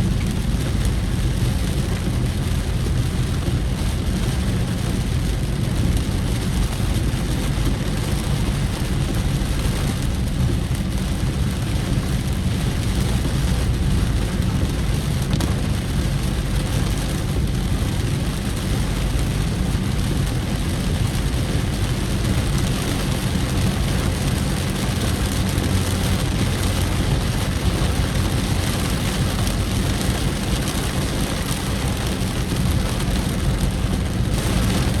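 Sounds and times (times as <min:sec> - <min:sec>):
vehicle engine hum and road noise: 0:00.0 - 0:35.0.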